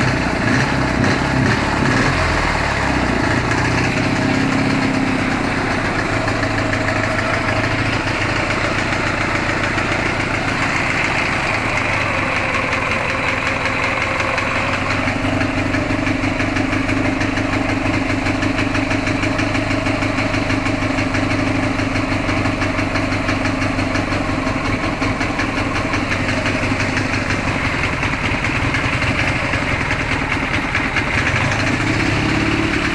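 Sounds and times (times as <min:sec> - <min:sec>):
engine idling: 0:00.0 - 0:32.9
repetitive engine knock: 0:00.0 - 0:32.9.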